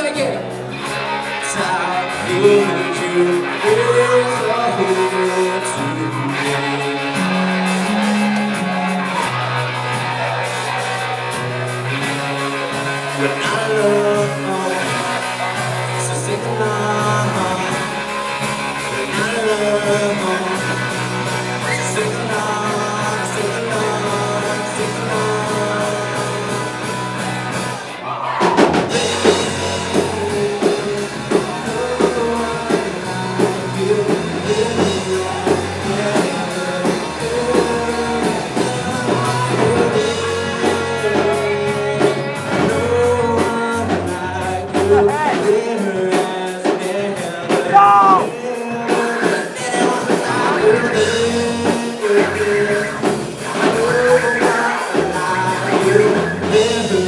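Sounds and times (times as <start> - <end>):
drums: 0.0 - 57.0
held guitar and keyboard chords: 0.0 - 57.0
rock band playing: 0.0 - 57.0.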